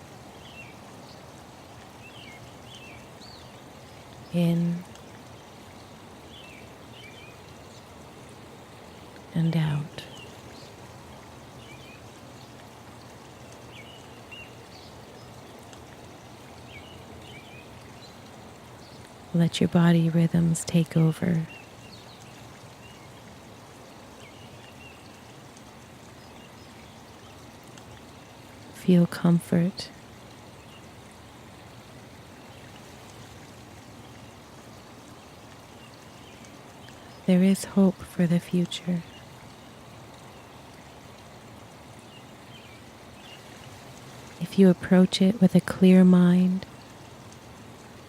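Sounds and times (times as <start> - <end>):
running water: 0.0 - 48.0.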